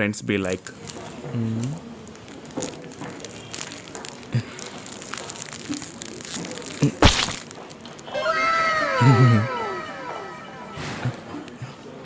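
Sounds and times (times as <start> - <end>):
plastic wrapper crinkling: 0.6 - 10.6
loud short crackle: 0.6 - 11.5.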